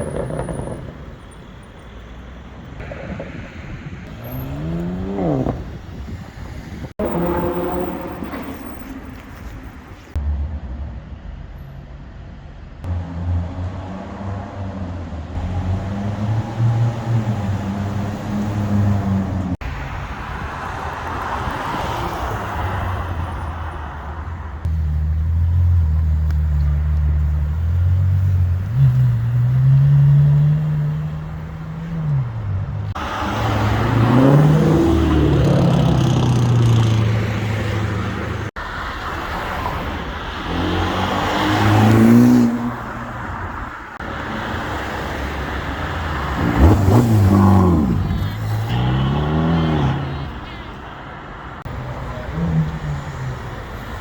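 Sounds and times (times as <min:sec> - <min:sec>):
car engines revving: 0:00.0 - 0:10.2, 0:12.8 - 0:54.0.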